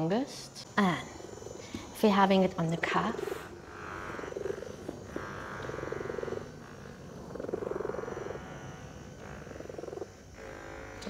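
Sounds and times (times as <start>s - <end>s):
massage gun buzzing: 0.0s - 11.0s.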